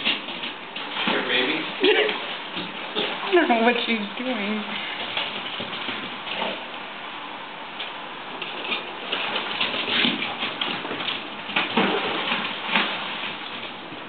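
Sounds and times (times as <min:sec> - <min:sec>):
puppies splashing in water: 0:00.0 - 0:14.0.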